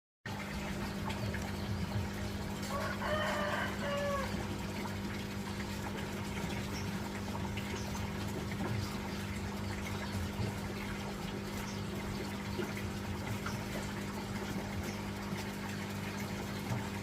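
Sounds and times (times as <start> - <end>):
pump motor humming: 0.3 - 17.0.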